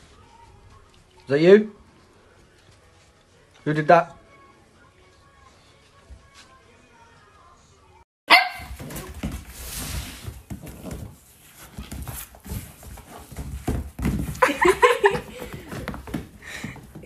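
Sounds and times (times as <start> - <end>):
hooves and paws pattering on floor: 0.0 - 6.8, 8.6 - 17.0.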